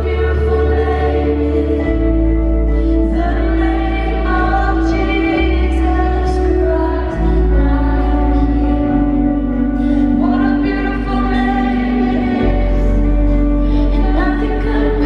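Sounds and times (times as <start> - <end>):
steady bass line: 0.0 - 15.0
woman singing: 0.0 - 15.0.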